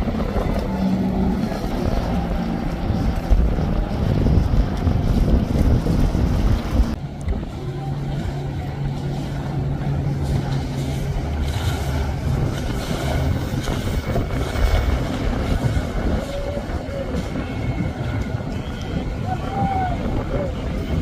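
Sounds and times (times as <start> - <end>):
hull slapping through choppy water: 0.0 - 21.0
outboard boat engine: 0.0 - 21.0.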